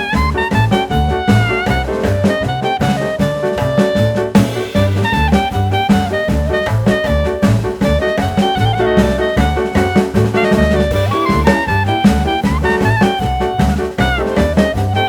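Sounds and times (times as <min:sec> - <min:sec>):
upbeat jazz music: 0:00.0 - 0:15.0.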